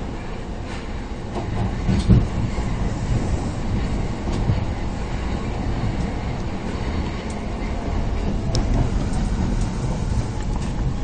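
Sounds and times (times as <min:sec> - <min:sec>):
rumble of train wheels on rails: 0:00.0 - 0:11.0.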